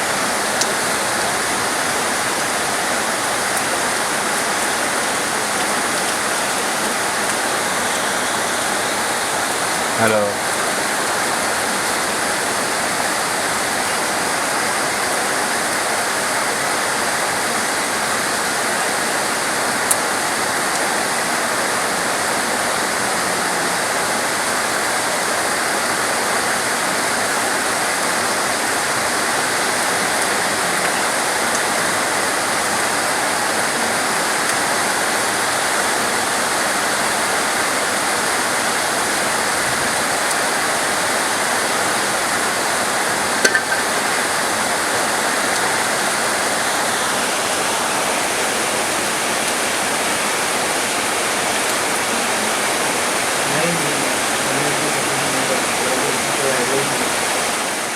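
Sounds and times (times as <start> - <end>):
dense rain falling: 0.0 - 57.9.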